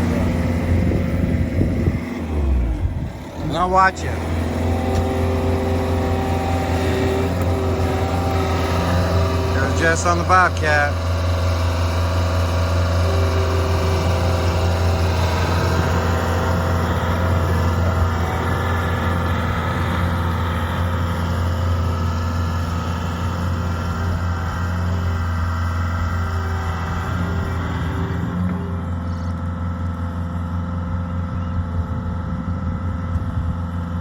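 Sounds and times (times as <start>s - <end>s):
skid steer engine humming: 0.0s - 34.0s.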